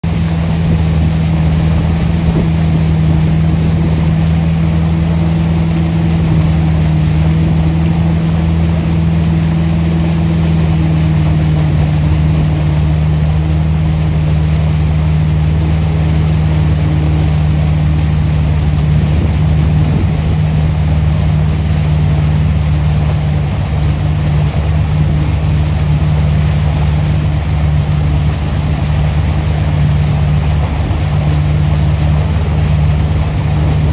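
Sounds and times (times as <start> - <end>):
boat engine droning: 0.0 - 33.9
boat wake wash: 0.0 - 33.9.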